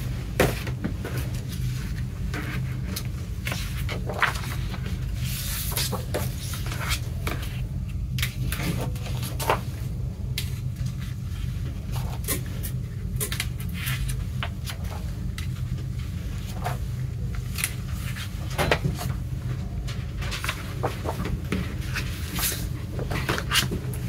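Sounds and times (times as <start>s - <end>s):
steady low hum: 0.0s - 24.0s
paper sheets rustling: 0.3s - 24.0s.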